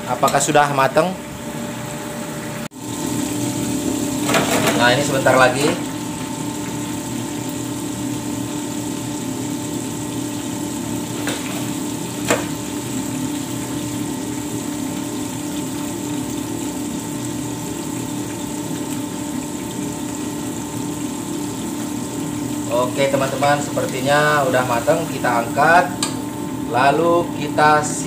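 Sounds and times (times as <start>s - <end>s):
steady hum: 0.0s - 28.0s
fish sizzling in hot oil: 2.7s - 26.8s.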